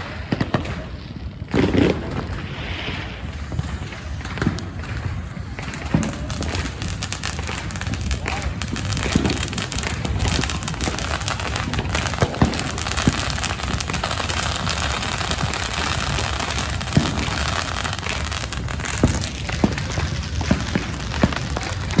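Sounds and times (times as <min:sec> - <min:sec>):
crackling hiss: 0:00.0 - 0:22.0
fireworks popping and banging: 0:00.0 - 0:22.0.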